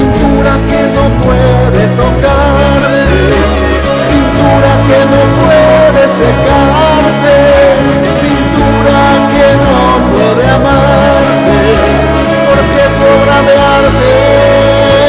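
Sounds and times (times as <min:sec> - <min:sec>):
gliding lead melody: 0:00.0 - 0:15.0
steady bass and accompaniment: 0:00.0 - 0:15.0.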